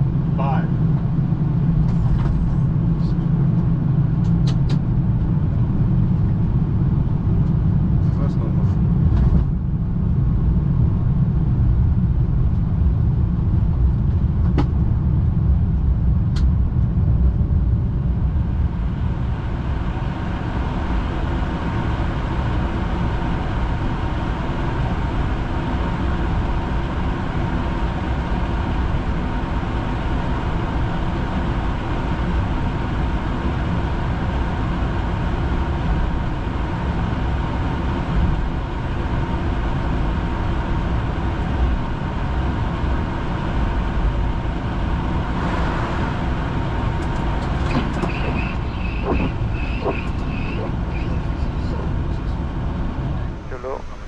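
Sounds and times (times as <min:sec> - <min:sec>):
low cockpit rumble: 0:00.0 - 0:54.0.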